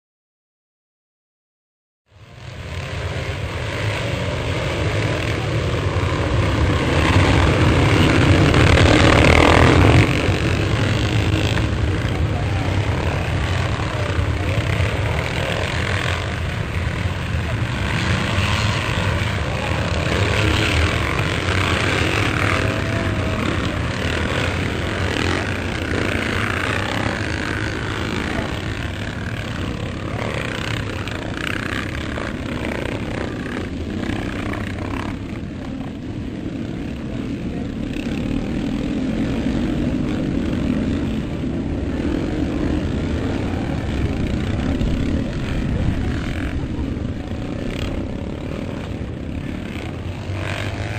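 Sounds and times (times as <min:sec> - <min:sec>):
motorcycle engines revving: 0:02.1 - 0:50.9
steady engine drone: 0:02.1 - 0:50.9.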